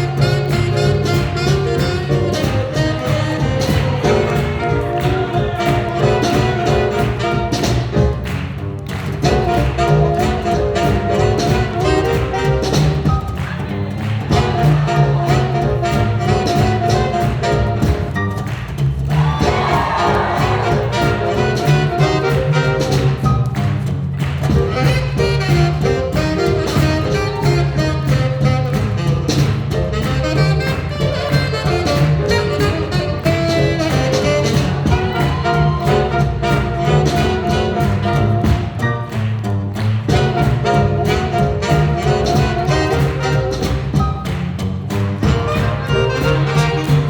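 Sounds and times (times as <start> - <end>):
bass line: 0.0 - 47.0
jazz band playing swing: 0.0 - 47.0.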